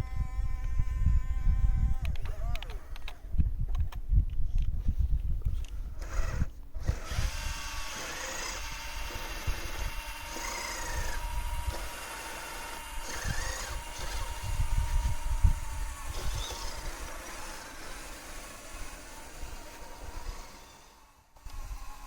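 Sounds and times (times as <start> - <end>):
small electric motor whining: 0.0 - 3.3, 5.6 - 22.0.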